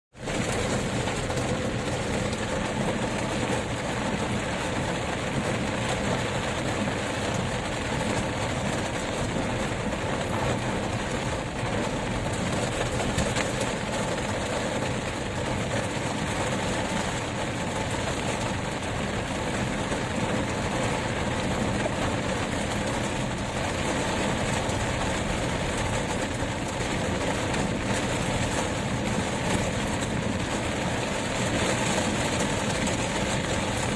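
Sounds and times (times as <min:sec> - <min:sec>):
wind and rain rushing: 0:00.1 - 0:33.9.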